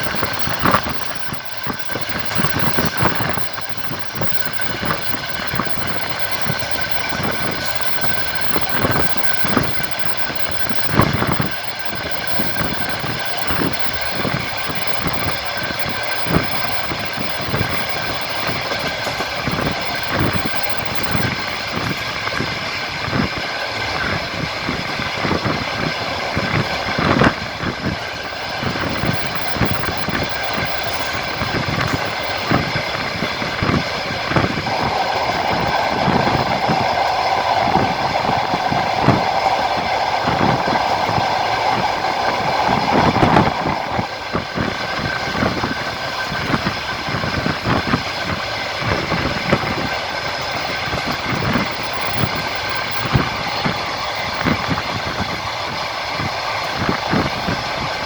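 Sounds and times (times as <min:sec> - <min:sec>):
steady mid-pitched noise: 0:00.0 - 0:58.0
train rumble and hum: 0:00.0 - 0:58.0
train wheels clicking over rail joints: 0:00.0 - 0:58.0.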